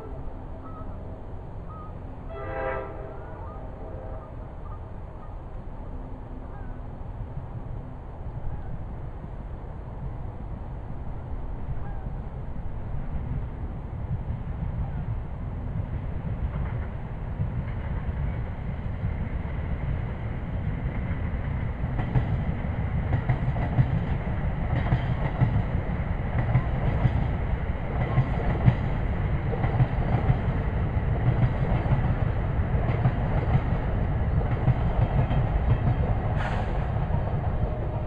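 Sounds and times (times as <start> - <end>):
strong wind buffeting microphone: 7.0 - 38.0.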